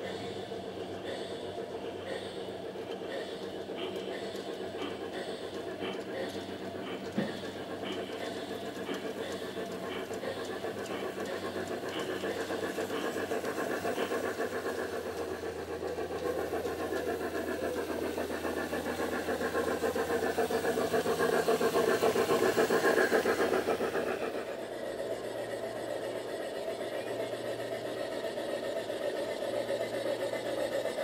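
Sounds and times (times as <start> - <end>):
model train running: 0.0 - 31.0.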